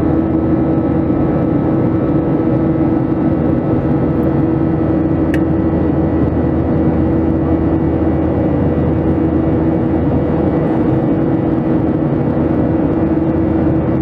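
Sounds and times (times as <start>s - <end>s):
aircraft engines humming: 0.0s - 14.0s
cabin air rush: 0.8s - 14.0s.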